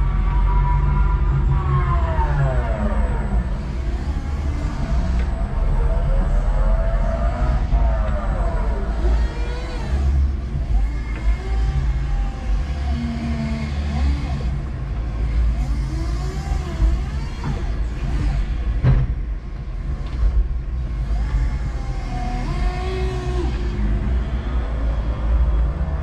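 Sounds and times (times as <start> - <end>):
forklift motor rumbling: 0.0 - 26.0.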